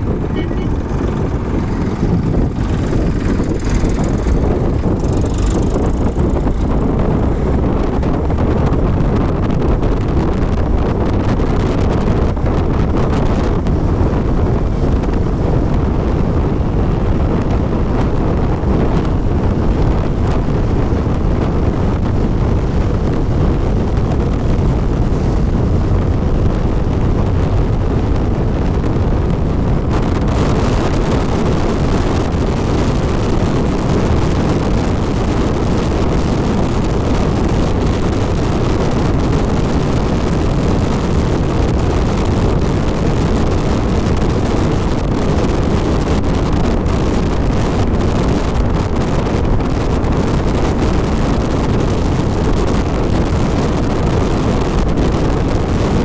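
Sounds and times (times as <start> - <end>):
motorcycle engine and road noise: 0.0 - 56.0
wind buffeting microphone: 0.0 - 56.0.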